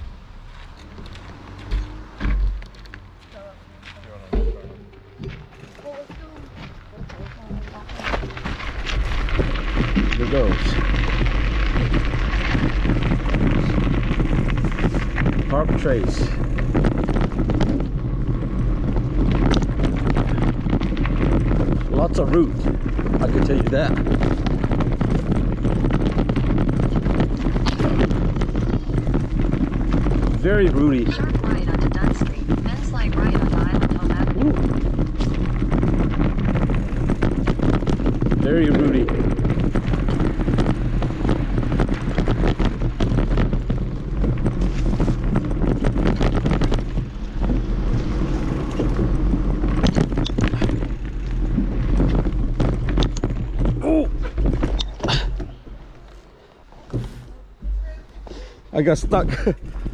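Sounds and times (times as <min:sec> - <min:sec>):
wind buffeting microphone: 0:00.0 - 0:59.9
bike clattering over roots: 0:04.2 - 0:59.9.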